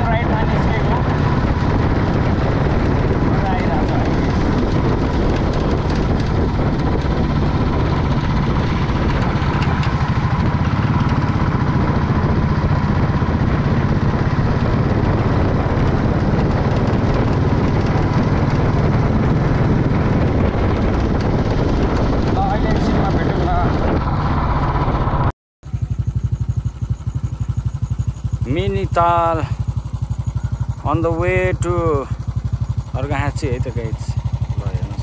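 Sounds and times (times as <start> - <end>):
constant rushing noise: 0.0 - 35.0
motorcycle engine running: 0.0 - 35.0.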